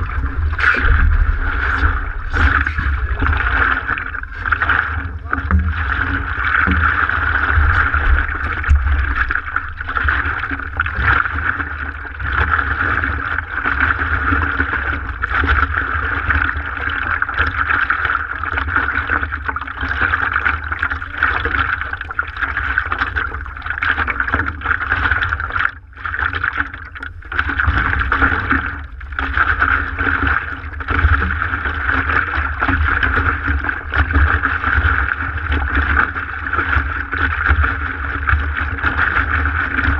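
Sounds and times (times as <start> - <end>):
low rumble: 0.0 - 39.9
water rushing and splashing: 0.0 - 39.9.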